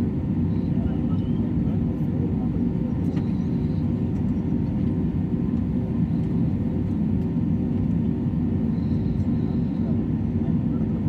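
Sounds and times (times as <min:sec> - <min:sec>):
jet engine and airflow rumble: 0:00.0 - 0:11.0.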